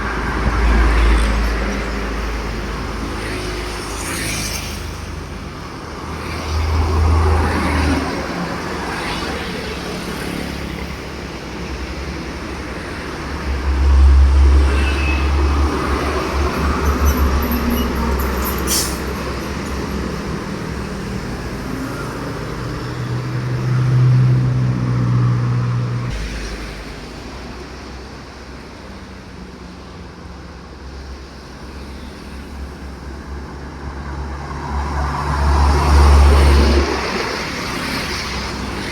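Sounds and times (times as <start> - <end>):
heavy trucks driving past: 0.0 - 38.9.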